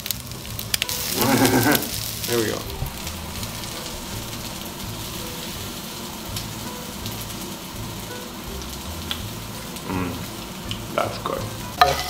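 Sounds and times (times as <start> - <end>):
background music with low beat: 0.0 - 12.0
meat sizzling in oil: 0.0 - 12.0.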